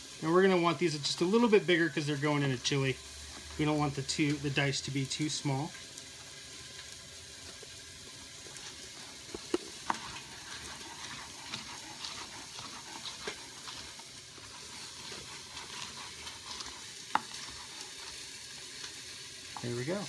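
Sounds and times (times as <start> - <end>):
ground beef sizzling: 0.0 - 20.0.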